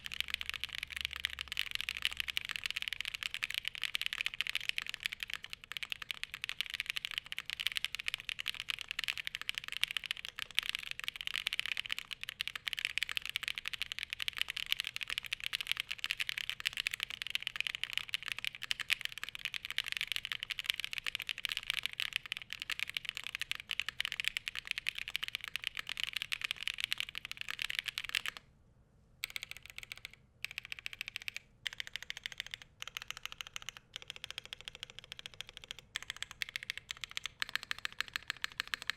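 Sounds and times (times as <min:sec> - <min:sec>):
mechanical keyboard typing: 0:00.0 - 0:28.4, 0:29.2 - 0:38.9.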